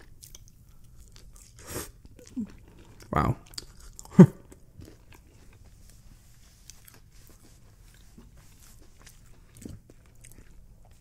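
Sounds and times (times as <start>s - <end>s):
soft chewing of fries: 0.0s - 11.0s.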